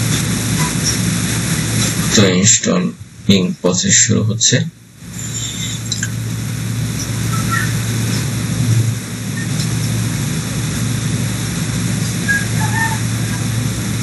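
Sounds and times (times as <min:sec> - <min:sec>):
even hiss: 0:00.0 - 0:14.0
low hum: 0:00.0 - 0:14.0.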